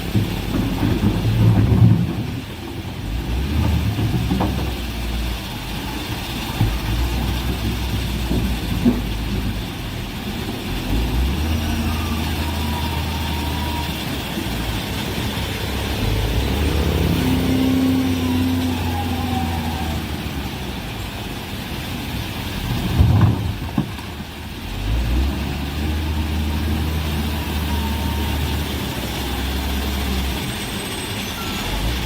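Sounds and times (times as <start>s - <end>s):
diesel machinery engine drone: 0.0s - 32.0s.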